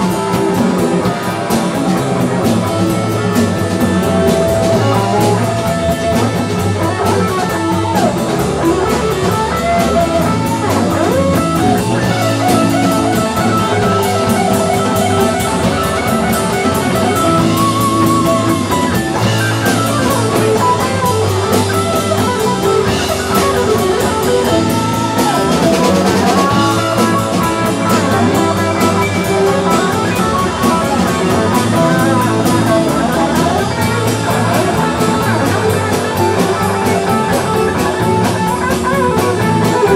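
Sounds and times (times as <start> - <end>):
bass: 0.0 - 39.9
congas: 0.0 - 39.9
drums: 0.0 - 39.9
electric guitar lead line: 0.0 - 39.9.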